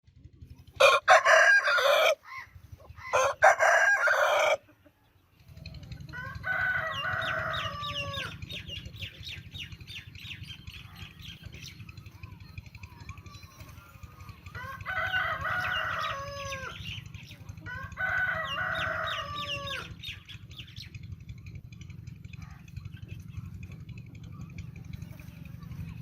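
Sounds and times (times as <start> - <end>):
roosters crowing: 0.6 - 24.1.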